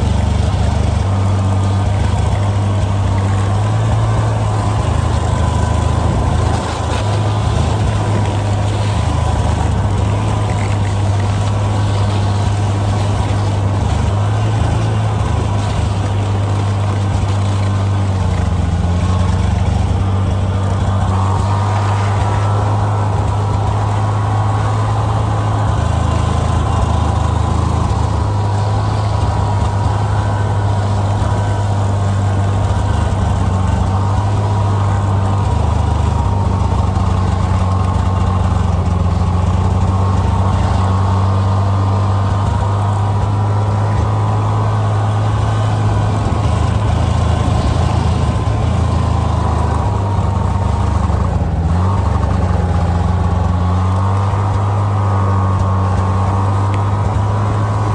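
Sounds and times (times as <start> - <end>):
snowmobile engine running: 0.0 - 57.9
thin whine: 0.0 - 57.9.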